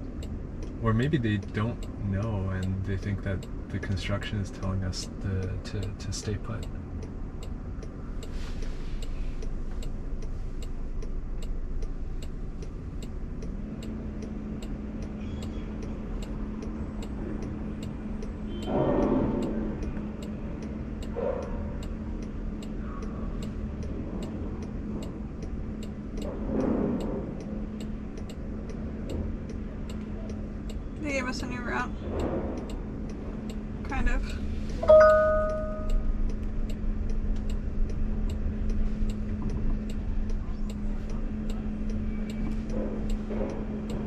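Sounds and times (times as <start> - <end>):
cabin and traffic noise: 0.0 - 44.0
turn signal ticking: 0.0 - 44.0
passing vehicle noise: 3.4 - 44.0.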